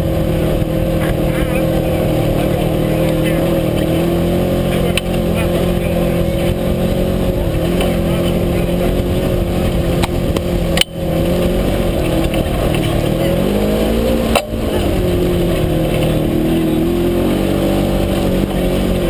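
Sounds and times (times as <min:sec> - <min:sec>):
utility vehicle engine running: 0:00.0 - 0:19.0.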